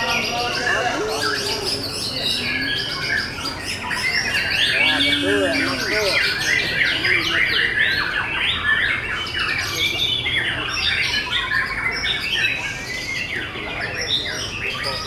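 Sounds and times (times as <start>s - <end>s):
birds singing whistled notes: 0.0s - 15.0s
scratchy bird phrases: 0.0s - 15.0s.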